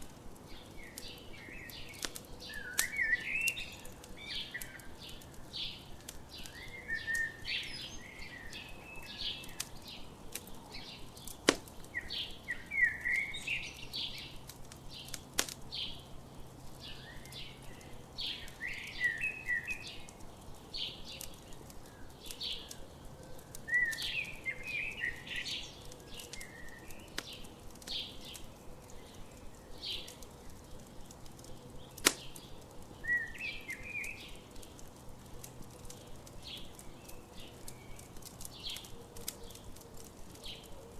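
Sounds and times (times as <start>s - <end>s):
campfire popping: 0.0s - 40.9s
small birds chirping: 0.0s - 40.9s.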